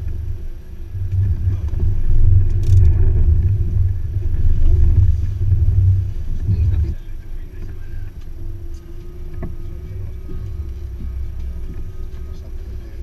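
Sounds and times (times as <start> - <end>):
off-road engine rumbling under load: 0.0 - 13.0.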